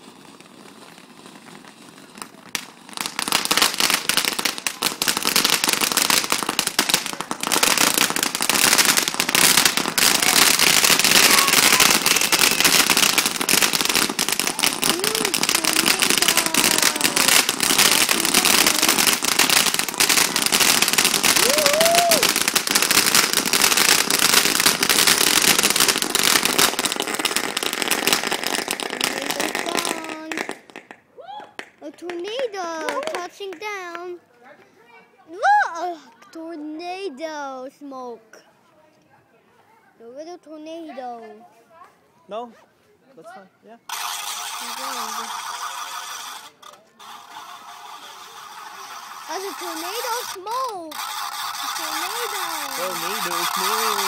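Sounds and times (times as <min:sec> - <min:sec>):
firework sparks crackling: 0:00.0 - 0:38.2, 0:43.2 - 0:54.0.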